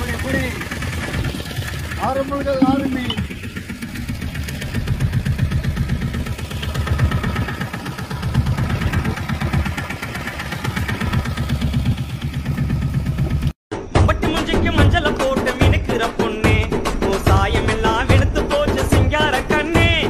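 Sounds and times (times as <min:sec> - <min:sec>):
boat engine throbbing: 0:00.0 - 0:13.6, 0:14.6 - 0:20.0.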